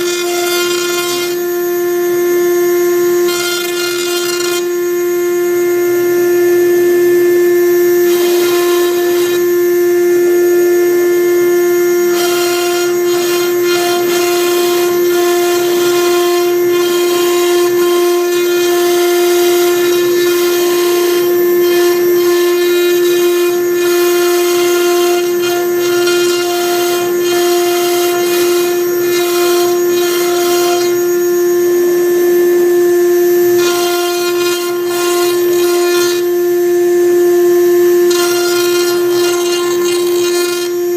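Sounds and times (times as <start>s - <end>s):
bit cutting wood board: 0.0s - 5.6s, 7.7s - 10.2s, 11.7s - 31.3s, 33.4s - 36.7s, 37.8s - 40.9s
router spindle whining: 0.0s - 40.9s.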